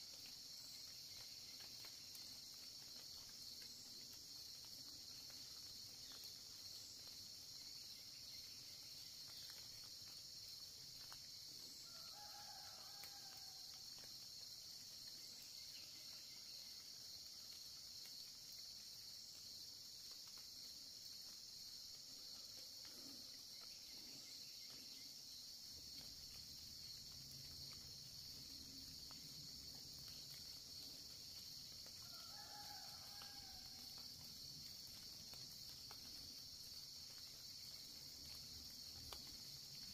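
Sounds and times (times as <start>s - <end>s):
crickets and insects chorus: 0.0s - 39.9s.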